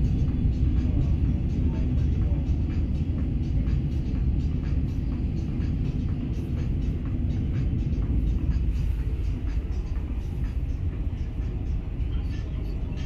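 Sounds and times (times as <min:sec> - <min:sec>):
electric train low rumble: 0:00.0 - 0:13.0.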